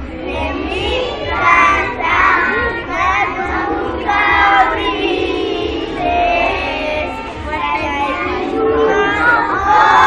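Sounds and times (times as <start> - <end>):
children singing and calling out: 0.0 - 10.0.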